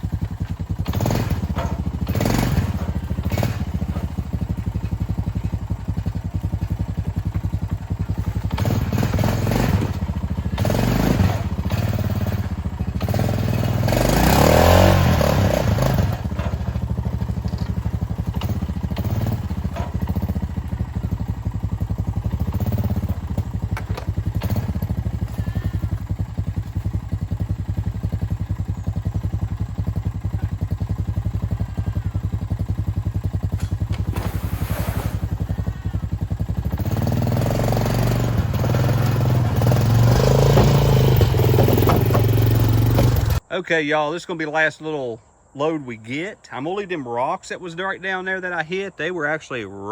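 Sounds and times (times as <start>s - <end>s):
digging thuds and clatter: 0.0s - 43.4s
excavator engine running: 0.0s - 43.5s.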